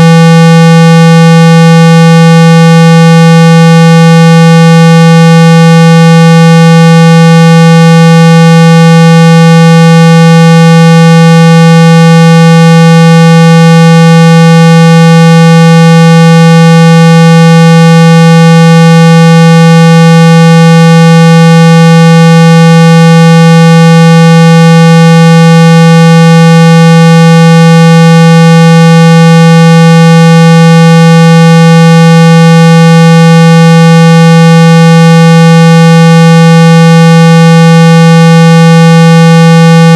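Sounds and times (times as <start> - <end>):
loud electronic tone: 0.0 - 39.9.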